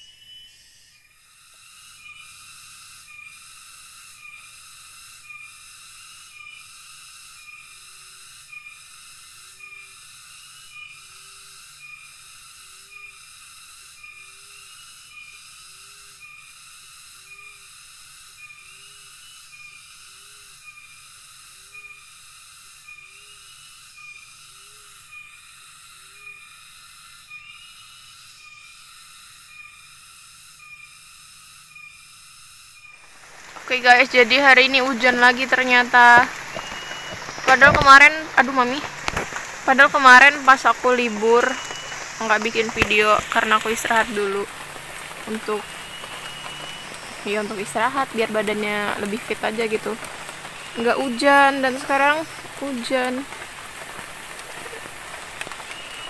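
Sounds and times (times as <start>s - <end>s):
pulsing cicada chorus: 0.0s - 56.0s.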